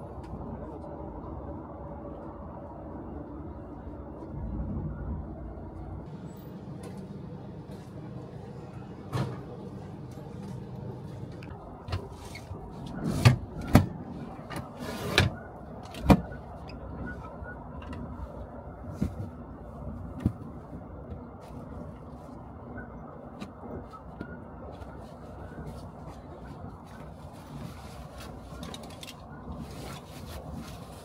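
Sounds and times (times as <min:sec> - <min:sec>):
low carriage hum: 0:00.0 - 0:31.0.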